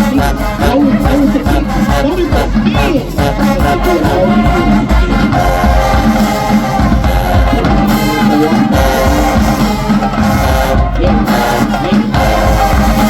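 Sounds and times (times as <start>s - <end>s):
marching band brass: 0.0s - 13.0s
marching band drums: 0.0s - 13.0s.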